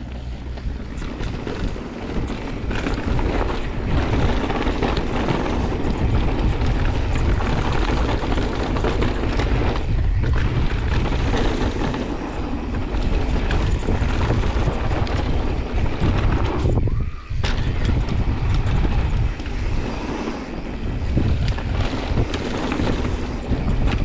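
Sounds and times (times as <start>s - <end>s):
bike tyres rolling on gravel: 0.0s - 24.0s
wind buffeting microphone: 0.0s - 24.0s.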